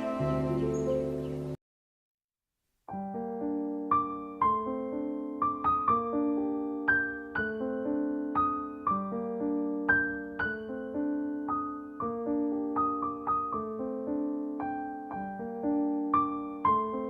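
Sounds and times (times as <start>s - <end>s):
gentle solo piano music: 0.0s - 1.6s, 2.9s - 17.0s.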